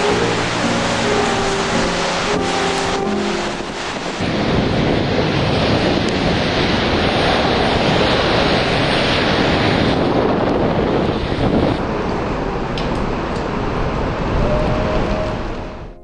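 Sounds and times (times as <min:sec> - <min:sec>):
storm wind buffeting microphone: 0:00.0 - 0:16.0.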